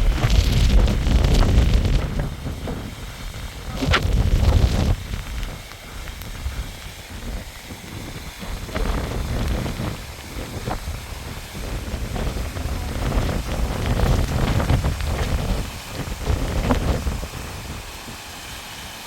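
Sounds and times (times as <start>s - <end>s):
wind gusting over microphone: 0.0s - 18.6s
faint rain patter: 0.0s - 19.0s.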